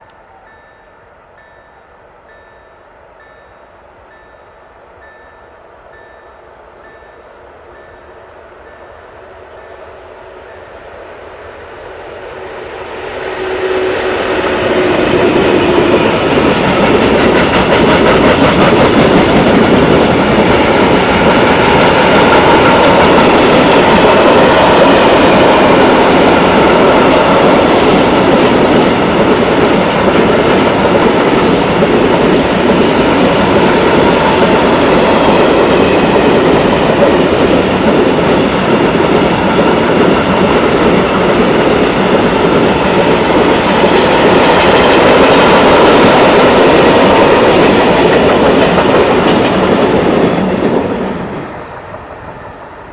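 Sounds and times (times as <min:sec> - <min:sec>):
freight train rumbling past: 0:00.0 - 0:52.9.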